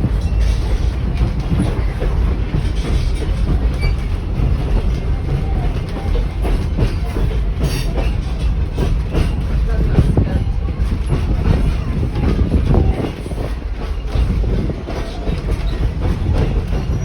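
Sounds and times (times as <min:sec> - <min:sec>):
train rolling rumble: 0:00.0 - 0:17.0
wheels clattering over rail joints: 0:00.0 - 0:17.0.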